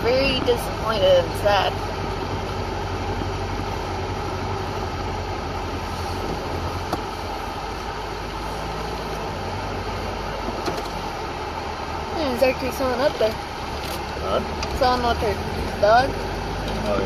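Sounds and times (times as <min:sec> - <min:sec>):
car engine running at low speed: 0:00.0 - 0:17.0
road noise on dirt track: 0:00.0 - 0:17.0.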